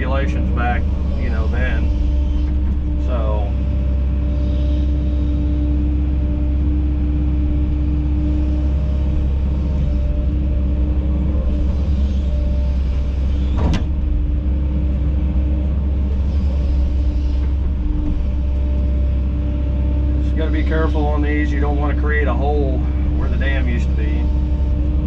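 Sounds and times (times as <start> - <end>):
excavator diesel engine rumble: 0.0 - 25.0.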